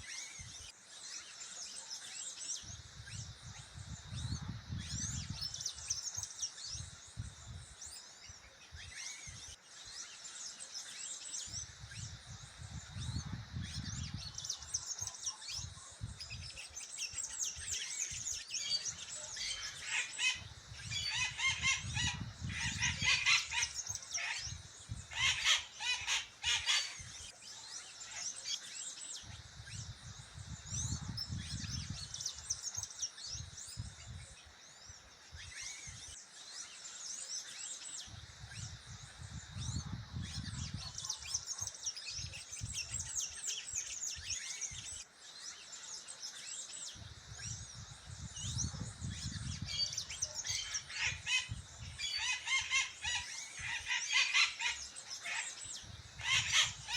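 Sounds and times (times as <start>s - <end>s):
birds chirping and singing: 0.0s - 56.9s.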